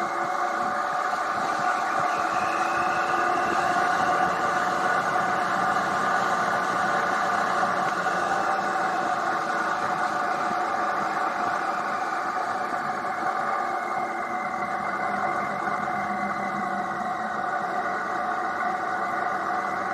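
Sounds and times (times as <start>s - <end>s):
motorcycle engine cruising: 0.0s - 19.9s.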